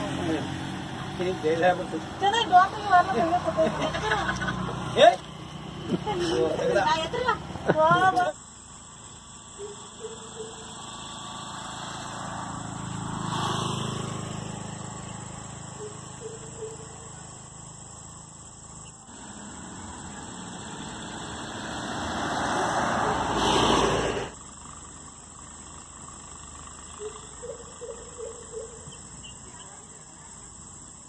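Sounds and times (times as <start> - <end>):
vehicle passing: 0.0 - 30.6.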